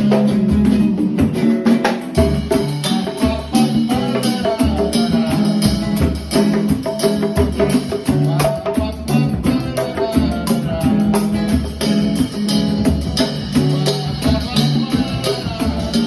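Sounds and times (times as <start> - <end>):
upbeat song with bass and guitar: 0.0 - 16.0
person singing: 2.4 - 6.7, 7.4 - 16.0.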